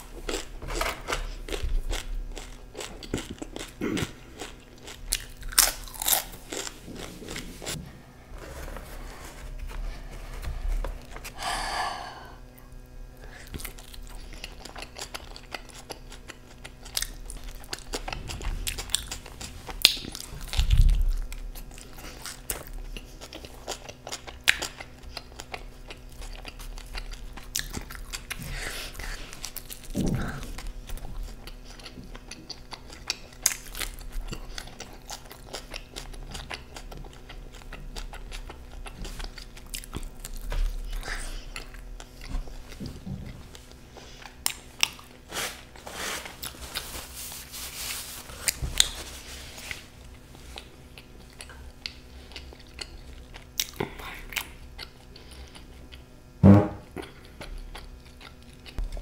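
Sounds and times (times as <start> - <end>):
person chewing pizza crust: 0.0 - 59.0.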